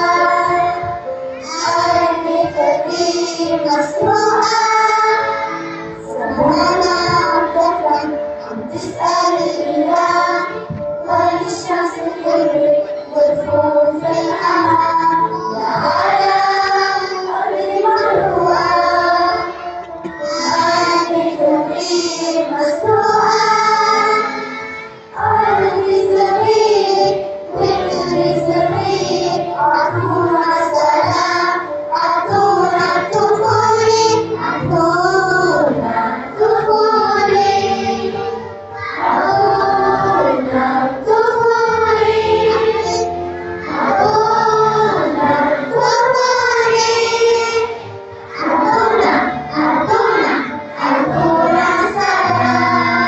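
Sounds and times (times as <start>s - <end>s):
children singing: 0.0s - 53.0s
musical accompaniment: 0.0s - 53.0s.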